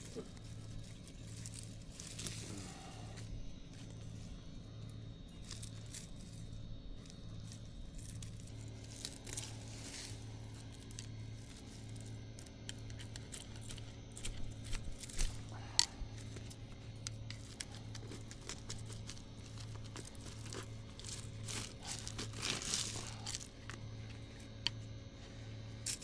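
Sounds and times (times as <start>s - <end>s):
weeds rustling and tearing: 0.0s - 4.4s, 5.3s - 24.6s, 25.8s - 26.0s
low steady hum: 0.0s - 26.0s.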